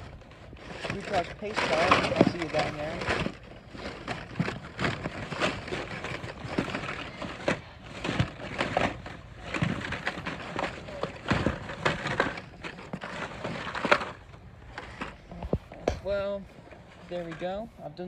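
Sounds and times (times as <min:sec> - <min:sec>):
plastic blister packs clacking: 0:00.0 - 0:17.6.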